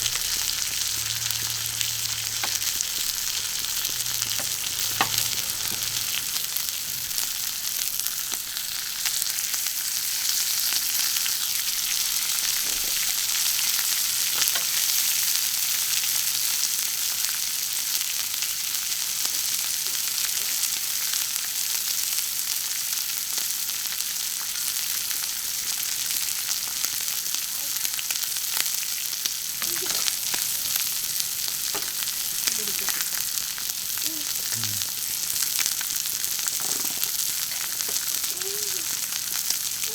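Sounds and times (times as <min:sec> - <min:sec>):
food sizzling on a griddle: 0:00.0 - 0:39.9.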